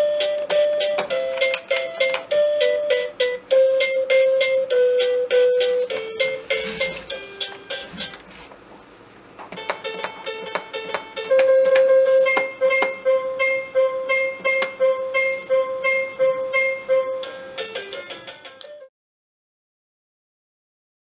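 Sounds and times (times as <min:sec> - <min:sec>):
tinkly electronic toy tune: 0:00.0 - 0:08.0, 0:09.8 - 0:18.9.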